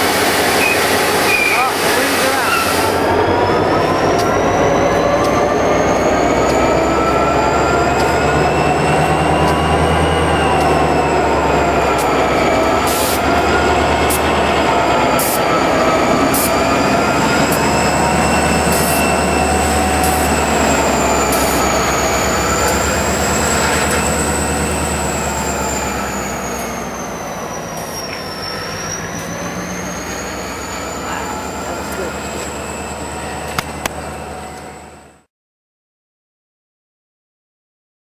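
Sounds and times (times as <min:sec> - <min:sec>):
diesel locomotive engine rumbling: 0:00.0 - 0:35.3
steel wheels squealing: 0:00.4 - 0:35.2.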